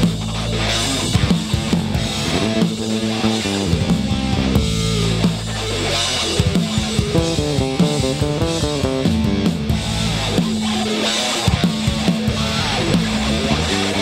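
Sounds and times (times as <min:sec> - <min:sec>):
bass and drums: 0:00.0 - 0:14.0
electric guitar riff: 0:00.0 - 0:14.0.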